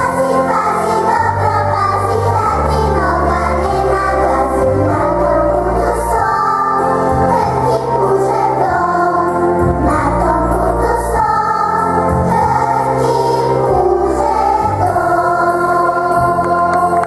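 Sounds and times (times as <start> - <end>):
girls choir singing: 0.0 - 17.0
instrumental accompaniment with bass: 0.0 - 17.0.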